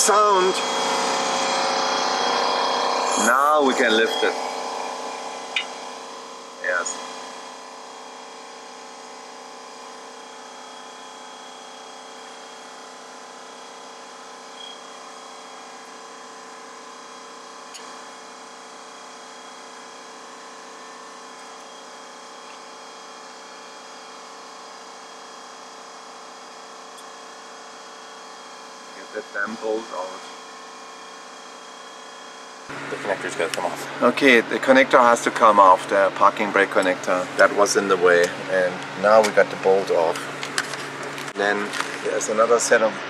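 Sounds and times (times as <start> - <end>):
steady mechanical hum: 0.0 - 43.0.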